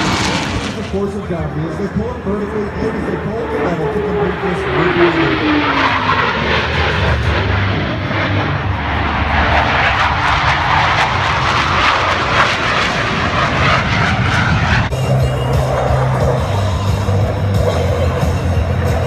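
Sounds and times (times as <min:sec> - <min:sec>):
fighter jets flying low past: 0:00.0 - 0:19.0.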